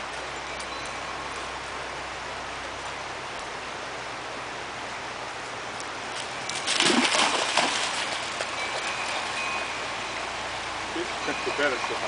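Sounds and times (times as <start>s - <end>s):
river water rushing: 0.1s - 12.0s.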